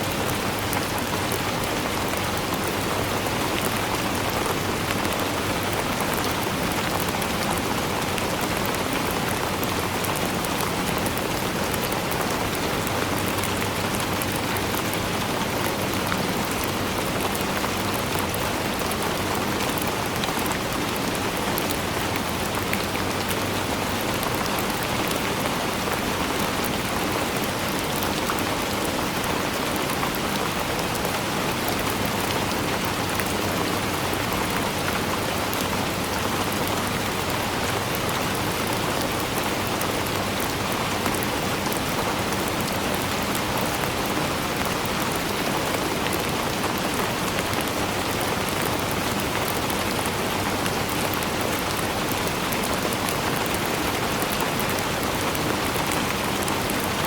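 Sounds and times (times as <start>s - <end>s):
raindrops pattering on a surface: 0.0s - 57.0s
steady rain falling: 0.0s - 57.0s.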